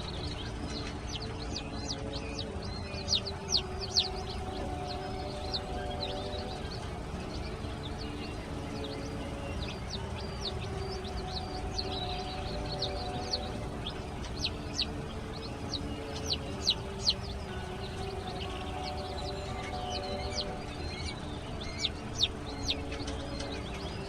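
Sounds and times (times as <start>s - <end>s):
baby chicks peeping: 0.0s - 24.0s
faint low hum: 0.0s - 24.0s.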